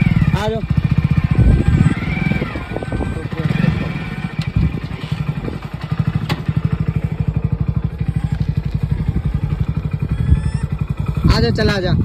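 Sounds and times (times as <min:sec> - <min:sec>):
motorcycle engine puttering: 0:00.0 - 0:12.0.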